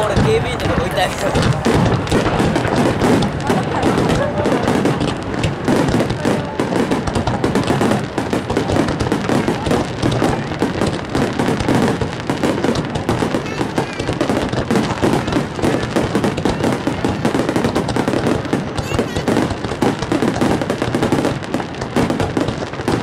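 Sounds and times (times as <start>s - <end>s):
fireworks bursting: 0.0s - 23.0s
fireworks crackling: 0.0s - 23.0s.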